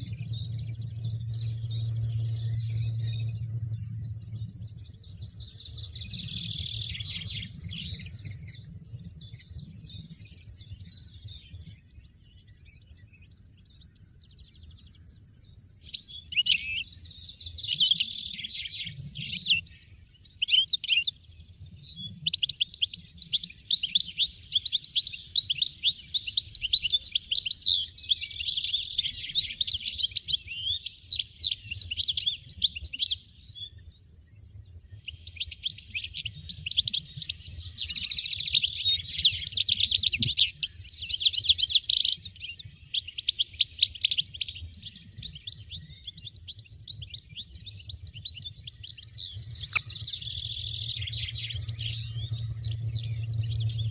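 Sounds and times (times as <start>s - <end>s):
bird singing fast twitters: 0.0s - 53.9s.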